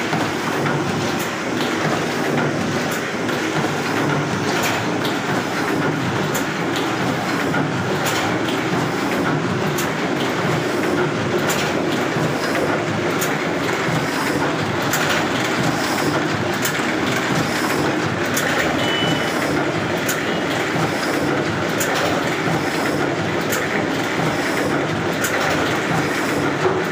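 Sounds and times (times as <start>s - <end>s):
letterpress mechanical clatter: 0.0s - 26.9s.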